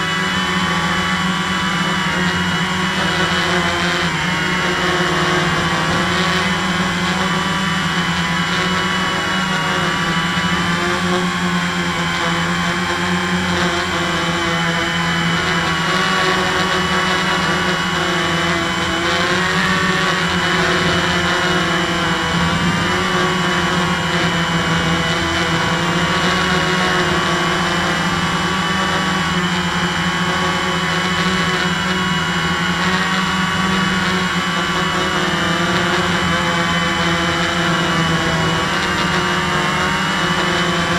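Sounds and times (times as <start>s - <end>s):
quadcopter propellers whirring: 0.0s - 40.9s.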